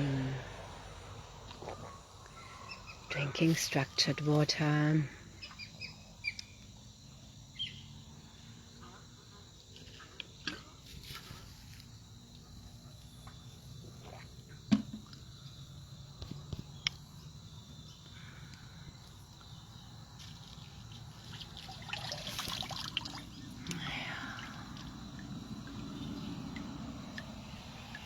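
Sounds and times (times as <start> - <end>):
insects: 0.0 - 28.0.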